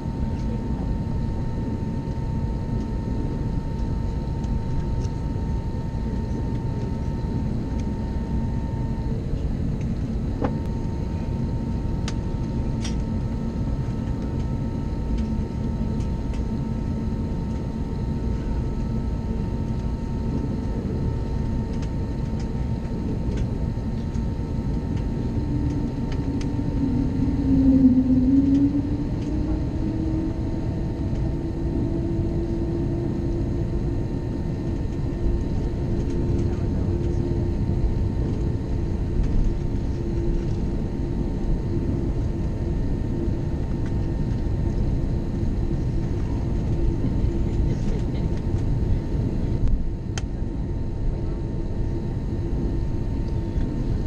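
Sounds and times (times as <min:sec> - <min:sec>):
aircraft cabin rumble: 0:00.0 - 0:54.0
jet engine hum: 0:00.0 - 0:54.0.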